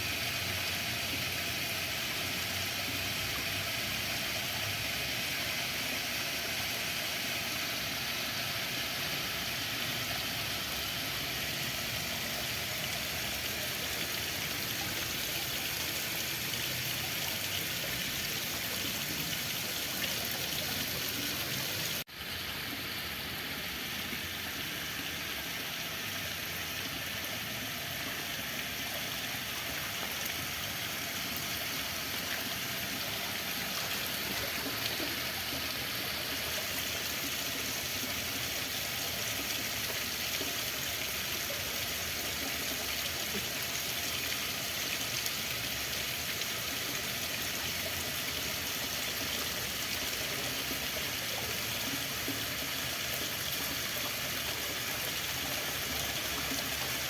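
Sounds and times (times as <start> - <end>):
running water flowing: 0.0 - 57.0.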